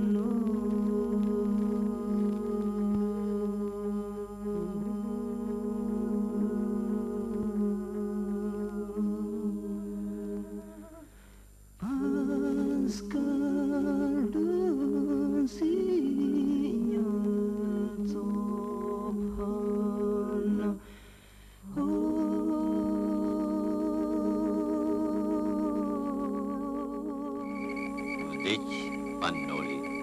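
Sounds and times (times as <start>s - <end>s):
wordless humming voices: 0.0s - 30.0s.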